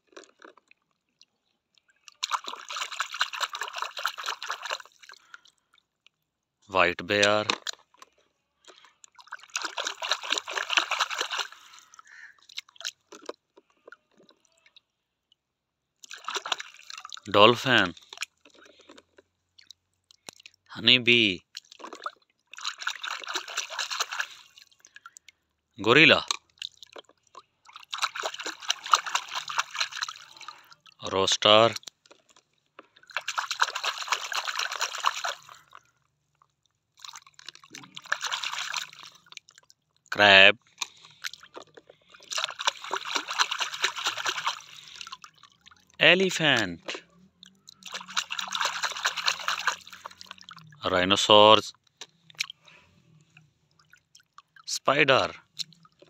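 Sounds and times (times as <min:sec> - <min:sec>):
water dripping: 0:00.0 - 0:06.2, 0:08.6 - 0:15.4, 0:16.0 - 0:18.8, 0:19.5 - 0:56.0
water splashing in a plastic tub: 0:00.0 - 0:15.4, 0:16.0 - 0:56.0.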